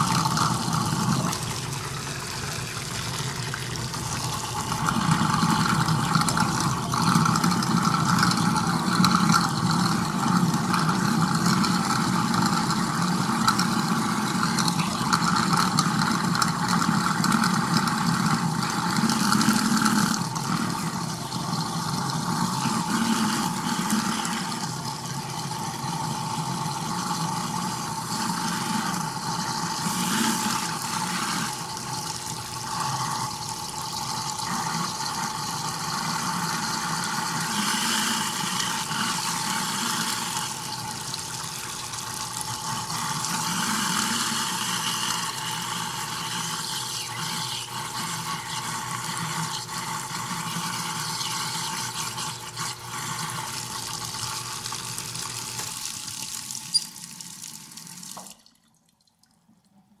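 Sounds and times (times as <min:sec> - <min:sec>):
washing machine churning water: 0:00.0 - 1:00.0.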